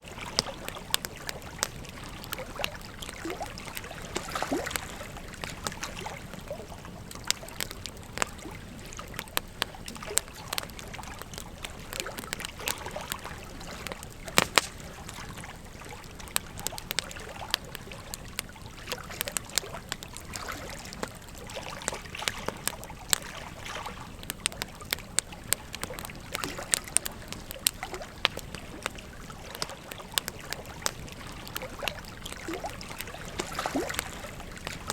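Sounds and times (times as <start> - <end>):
flowing river water: 0.0 - 34.9
wood fire crackling and popping: 0.0 - 34.9.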